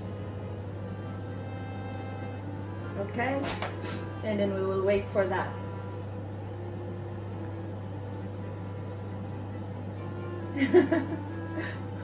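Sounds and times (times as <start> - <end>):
air fryer fan hum: 0.0 - 12.0.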